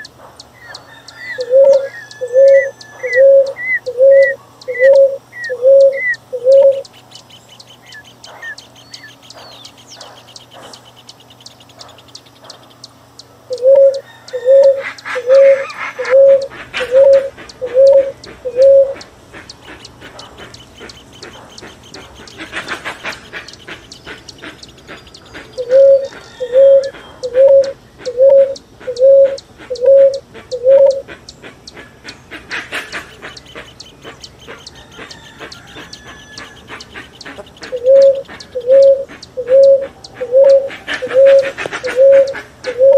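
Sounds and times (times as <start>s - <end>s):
bird calling low notes: 0.0s - 42.9s
high bird chirps: 0.0s - 42.9s.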